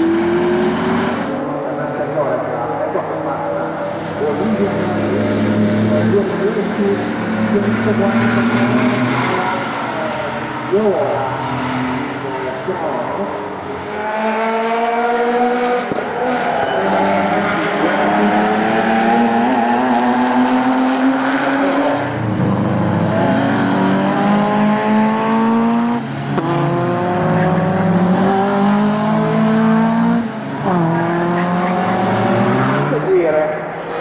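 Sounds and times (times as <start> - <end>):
racing car engines accelerating: 0.0 - 34.0.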